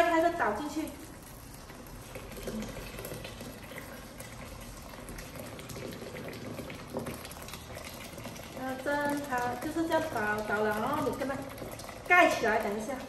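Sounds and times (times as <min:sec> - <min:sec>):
water pouring into a metal pot: 0:00.0 - 0:13.0.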